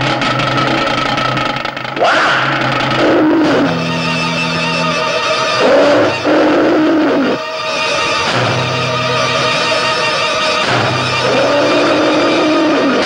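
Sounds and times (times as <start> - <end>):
dramatic film music: 0.0 - 13.0.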